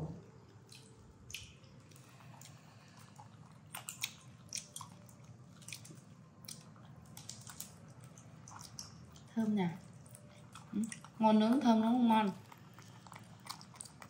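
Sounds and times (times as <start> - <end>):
monkeys chewing corn: 0.4 - 14.0.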